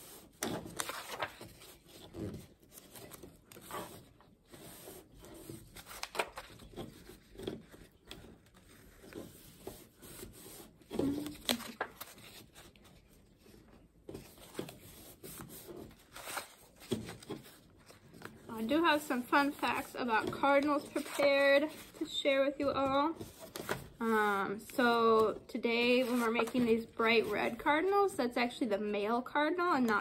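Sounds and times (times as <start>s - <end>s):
paper rustling and creasing: 0.0s - 28.0s.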